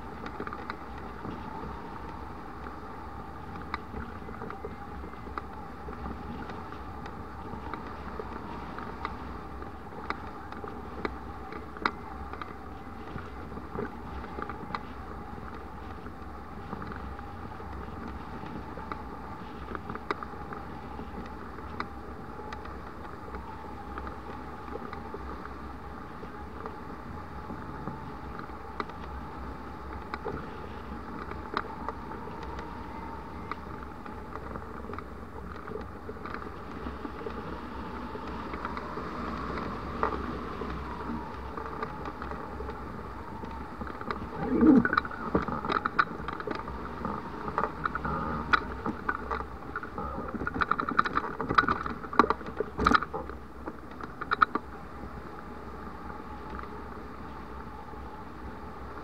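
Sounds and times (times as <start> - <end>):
wind bursts and knocks: 0.0 - 59.0
wind rumble on microphone: 0.0 - 59.0.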